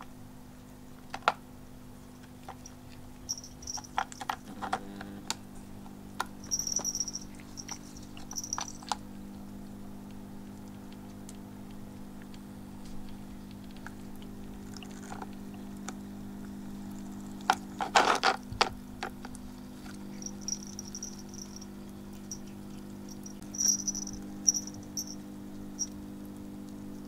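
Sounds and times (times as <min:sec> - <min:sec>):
pump hum: 0:00.0 - 0:27.0.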